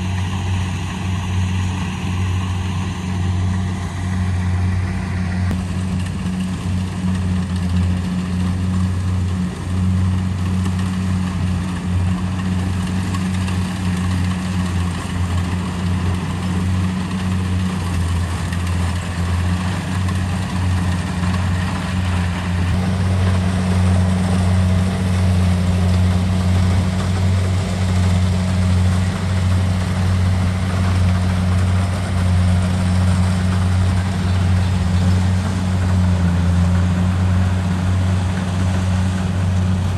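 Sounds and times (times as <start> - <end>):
combine harvester diesel engine drone: 0.0 - 39.9.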